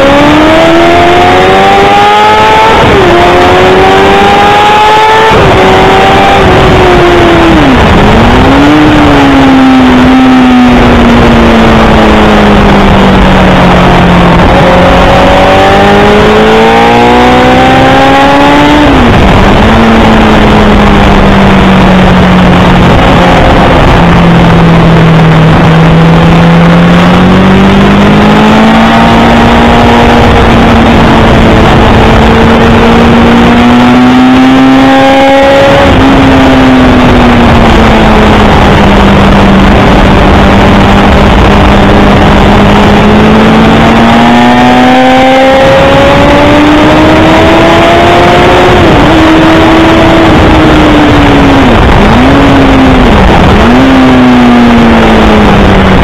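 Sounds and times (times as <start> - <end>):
motorcycle engine at speed: 0.0 - 56.0
wind rushing on microphone: 0.0 - 56.0.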